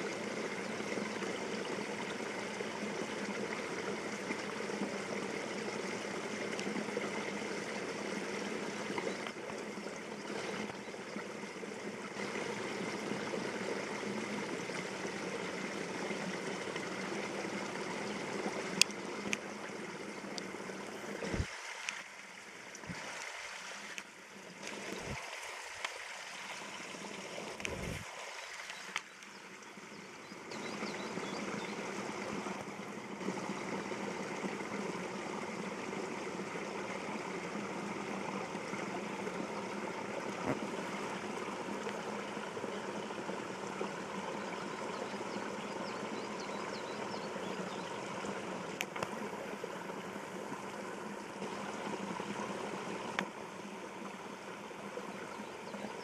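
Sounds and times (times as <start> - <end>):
flowing water: 0.0 - 56.0.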